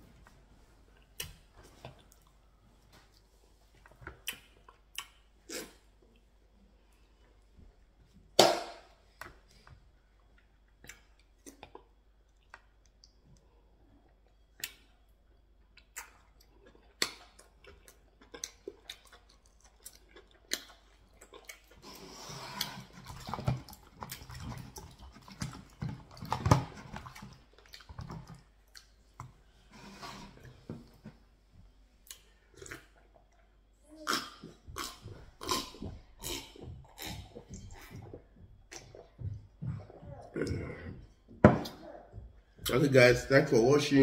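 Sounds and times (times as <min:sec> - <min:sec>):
person chewing food: 0:00.2 - 0:07.4, 0:09.2 - 0:29.7, 0:31.7 - 0:41.4.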